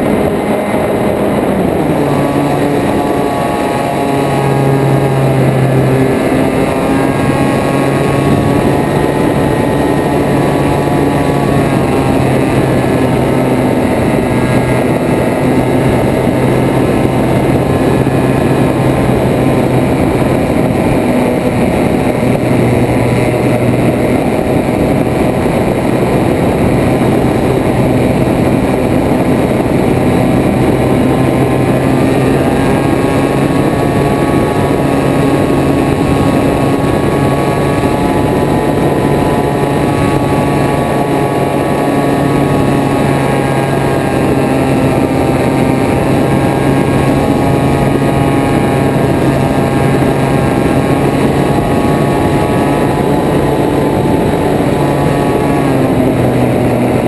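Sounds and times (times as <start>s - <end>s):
heavy wind rush: 0.0s - 57.0s
light aircraft engine and propeller: 0.0s - 57.0s.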